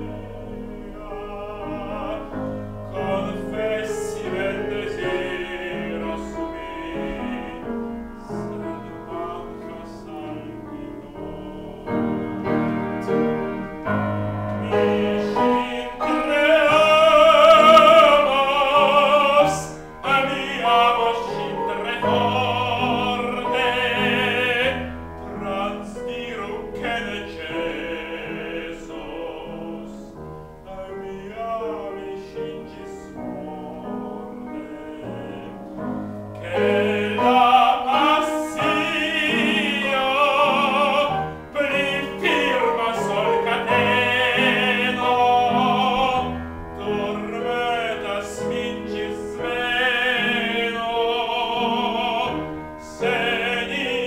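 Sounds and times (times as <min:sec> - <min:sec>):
grand piano: 0:00.0 - 0:54.0
operatic singing with vibrato: 0:00.0 - 0:54.0.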